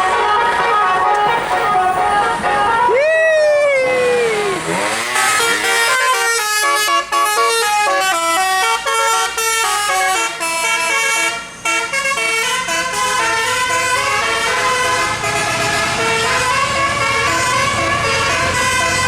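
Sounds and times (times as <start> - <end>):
musical air horn: 0.0 - 3.0, 3.8 - 19.0.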